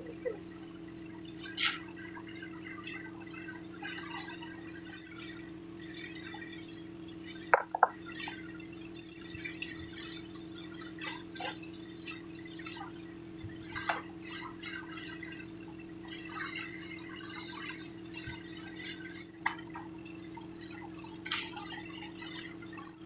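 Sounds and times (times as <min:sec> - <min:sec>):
low hum: 0:00.0 - 0:23.0
hose jet spraying soil: 0:01.2 - 0:23.0.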